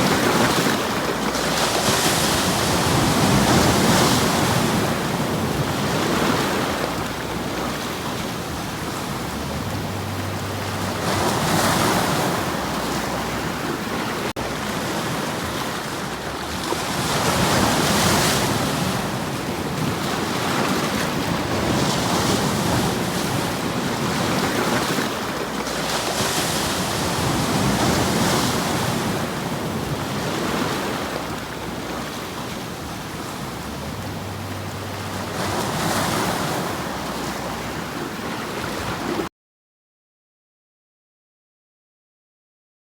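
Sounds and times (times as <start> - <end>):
sea waves surging: 0.0 - 39.3.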